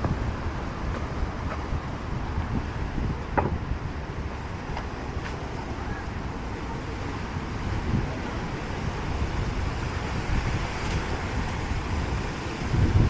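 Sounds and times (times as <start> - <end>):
steady rushing noise: 0.0 - 13.0
wind buffeting microphone: 0.0 - 13.0.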